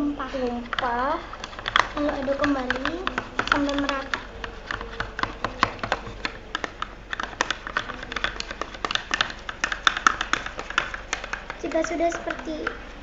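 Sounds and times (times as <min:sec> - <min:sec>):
stirrer clicking against container: 0:00.4 - 0:13.0.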